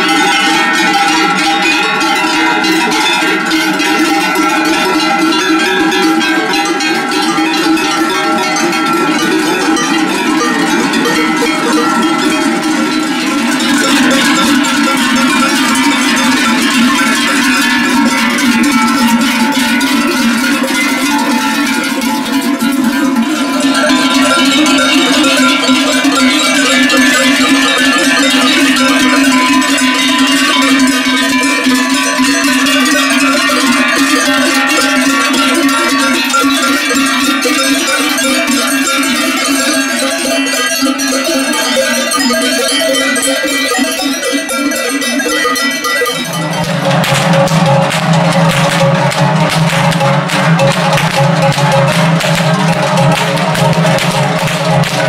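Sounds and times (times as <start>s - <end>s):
cowbells clanging: 0.0s - 55.0s.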